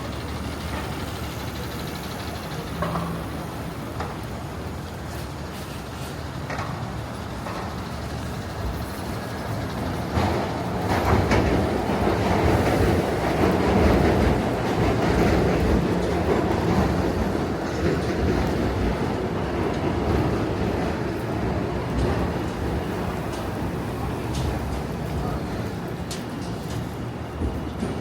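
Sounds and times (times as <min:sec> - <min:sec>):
train rumbling: 0:00.0 - 0:28.0
train wheels clacking: 0:00.0 - 0:28.0.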